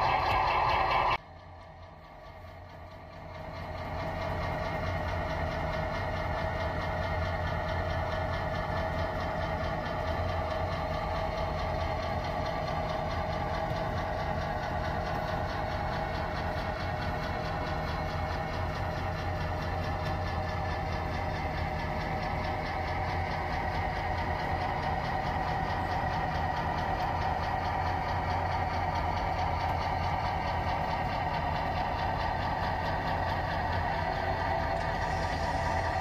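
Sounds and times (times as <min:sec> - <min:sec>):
model locomotive engine drone: 0:00.0 - 0:36.0.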